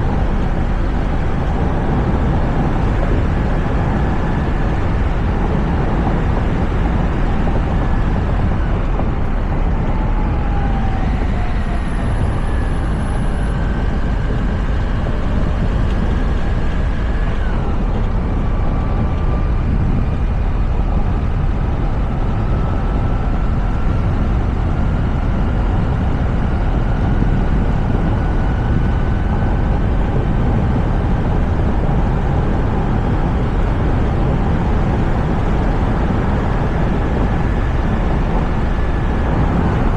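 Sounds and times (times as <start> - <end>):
car road and wind noise: 0.0 - 39.9
faint whine sliding in pitch: 0.0 - 39.9.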